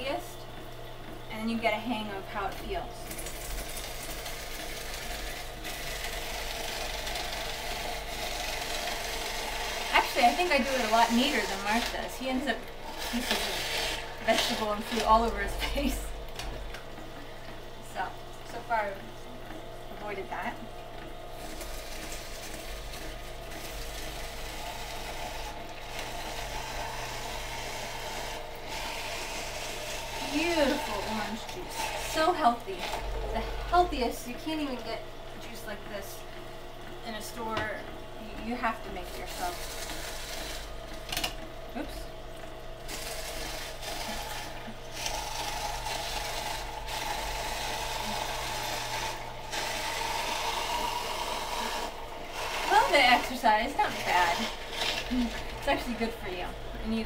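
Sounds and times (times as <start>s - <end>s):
juicer motor hum: 0.0s - 57.0s
juicer gears grinding carrots: 0.1s - 57.0s.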